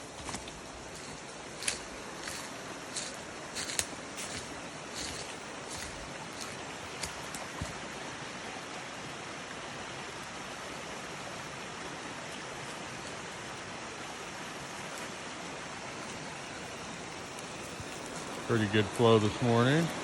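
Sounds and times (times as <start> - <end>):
waterfall rushing: 1.9 - 20.0.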